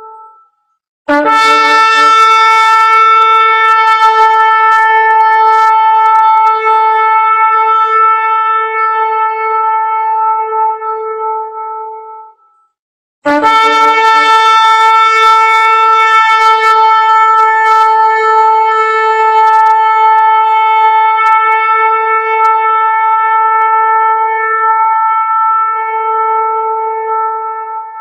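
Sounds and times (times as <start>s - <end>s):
long horn note: 1.1s - 12.4s, 13.3s - 28.0s.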